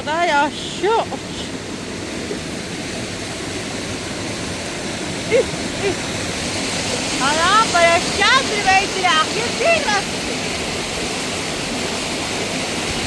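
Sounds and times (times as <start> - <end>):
water running over rocks: 0.0 - 13.0.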